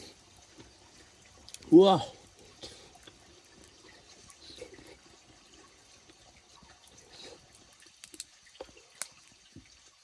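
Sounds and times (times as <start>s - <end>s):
wet juicy squelching of roasted leek: 0.0s - 10.0s.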